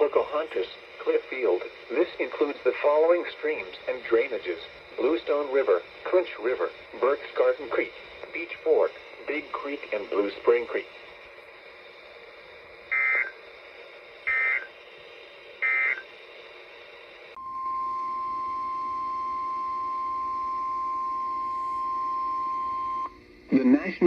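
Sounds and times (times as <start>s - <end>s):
faint radio hiss: 0.0s - 24.0s.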